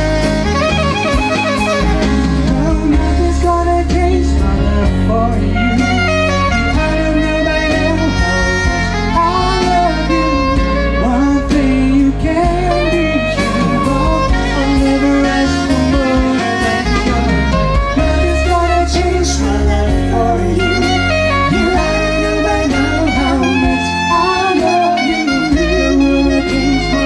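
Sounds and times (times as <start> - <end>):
live band with electric guitar: 0.0 - 27.0
man singing into a microphone: 2.4 - 27.0.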